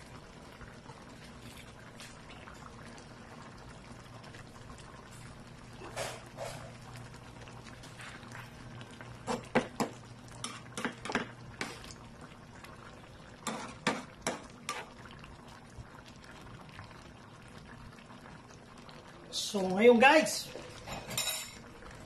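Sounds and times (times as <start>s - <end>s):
stew bubbling softly: 0.0s - 19.4s.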